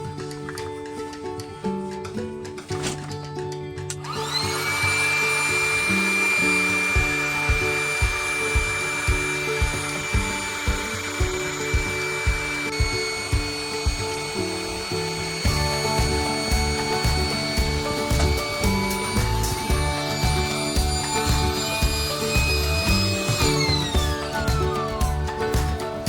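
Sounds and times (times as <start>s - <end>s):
electric air pump whining: 4.0s - 26.0s.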